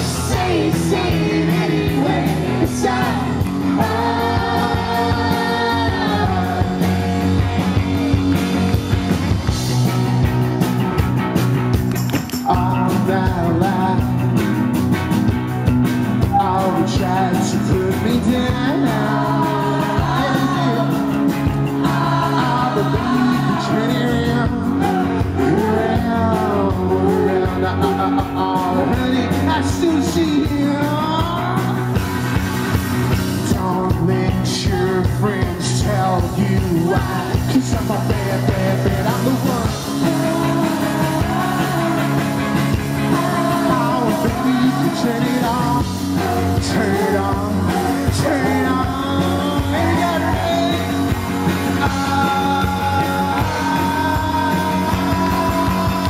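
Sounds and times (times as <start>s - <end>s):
man singing lead vocal: 0.0s - 7.6s, 12.4s - 14.4s, 16.2s - 32.0s, 33.4s - 56.0s
bass guitar: 0.0s - 56.0s
drums: 0.0s - 56.0s
electric guitar: 0.0s - 56.0s.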